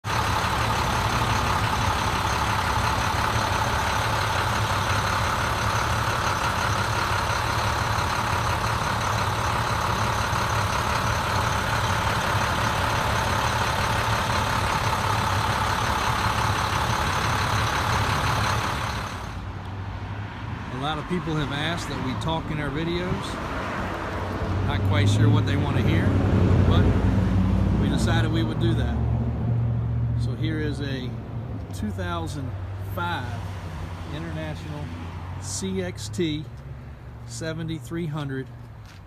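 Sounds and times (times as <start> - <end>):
diesel engine idling: 0.0 - 19.9, 20.7 - 39.0.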